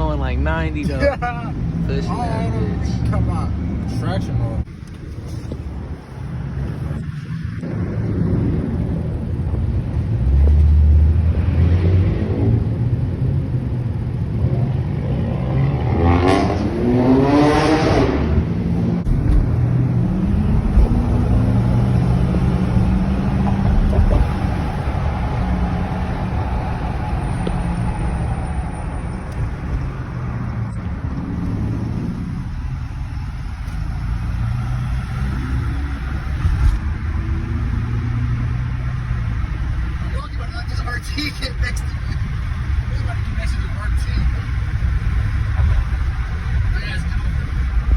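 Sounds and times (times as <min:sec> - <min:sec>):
car engine accelerating: 0:00.0 - 0:47.9.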